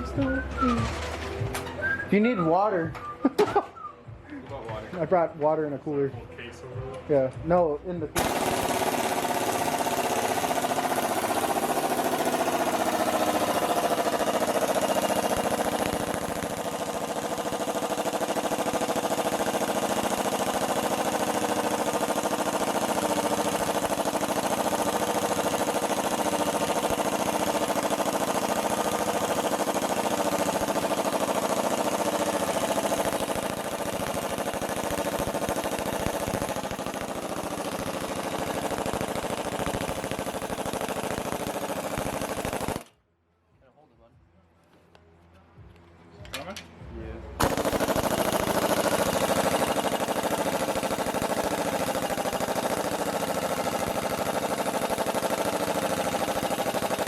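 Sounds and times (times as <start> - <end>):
machine motor rattling: 0.0 - 1.9, 8.2 - 42.9, 47.4 - 57.0.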